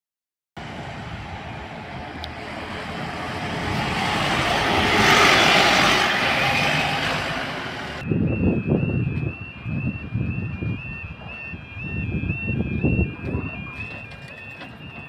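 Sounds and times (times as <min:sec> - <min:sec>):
bus engine and tyre noise: 0:00.6 - 0:15.0.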